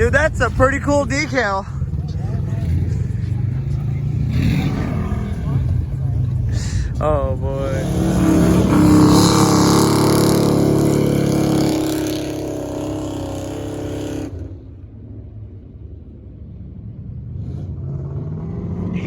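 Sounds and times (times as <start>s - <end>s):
truck engine revving: 0.0s - 15.3s.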